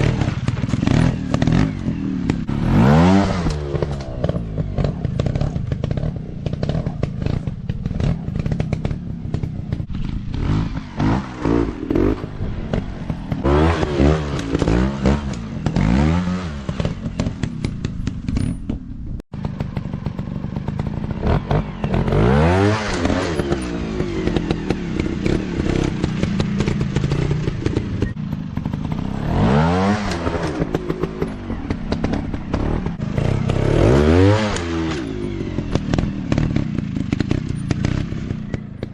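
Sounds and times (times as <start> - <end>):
dirt bike engines revving: 0.0 - 18.6, 19.4 - 38.9.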